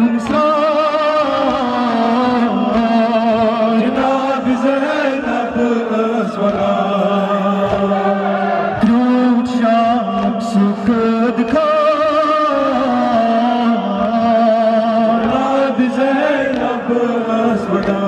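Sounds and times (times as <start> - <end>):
man singing lament into microphone: 0.0 - 18.0
men chanting: 0.0 - 18.0.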